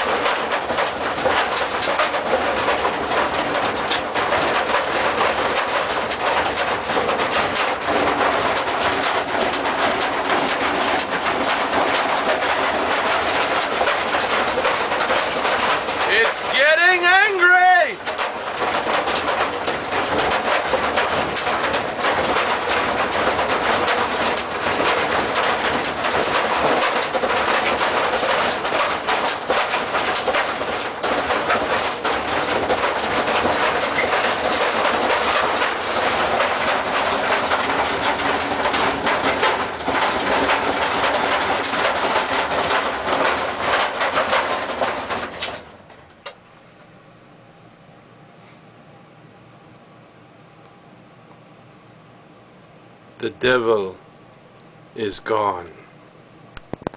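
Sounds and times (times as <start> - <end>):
washing machine rattling: 0.0 - 46.6.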